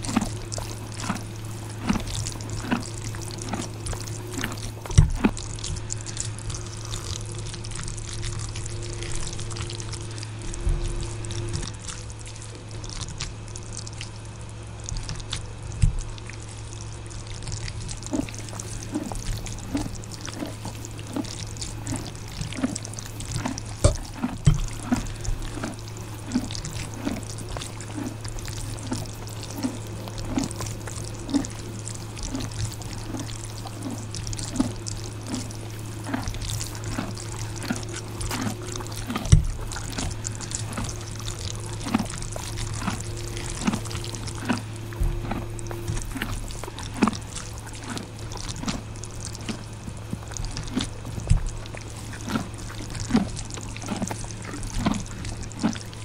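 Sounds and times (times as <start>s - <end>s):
steady low hum: 0.0s - 56.0s
wet chewing of noodles: 0.0s - 56.0s.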